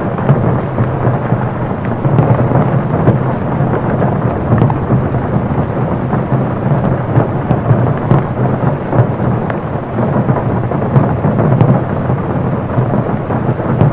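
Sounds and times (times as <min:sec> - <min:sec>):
heavy rain on a car roof: 0:00.0 - 0:13.9.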